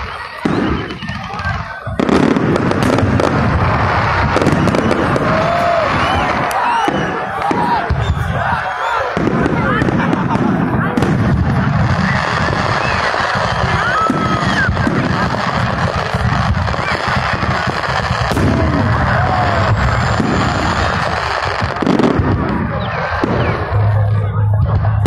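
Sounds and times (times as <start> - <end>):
fireworks bursting and crackling: 0.0 - 25.0
sharp firework bang: 0.4 - 8.3, 9.2 - 24.0.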